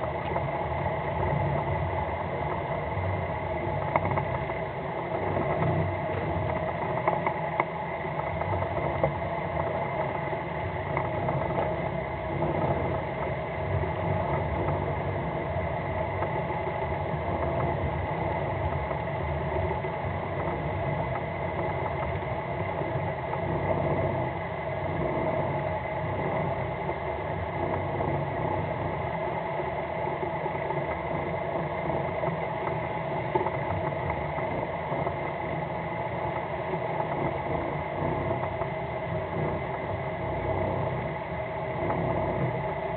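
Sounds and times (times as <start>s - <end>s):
boat engine running at low revs: 0.0s - 42.9s.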